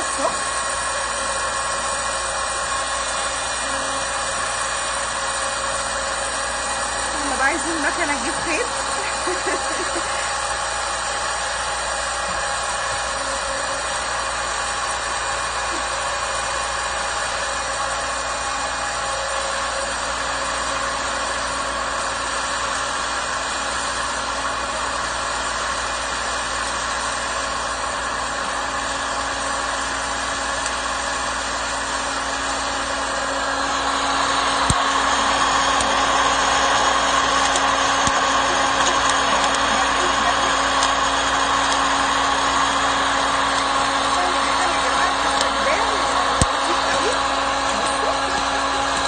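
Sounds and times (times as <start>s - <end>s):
popcorn maker fan whirring: 0.0s - 49.0s.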